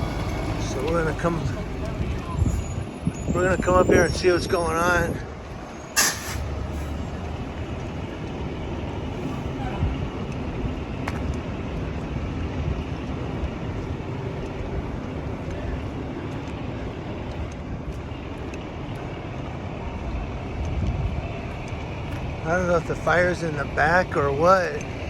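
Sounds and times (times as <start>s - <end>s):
faint engine hum: 0.0s - 25.0s
street traffic rumble: 0.0s - 25.0s.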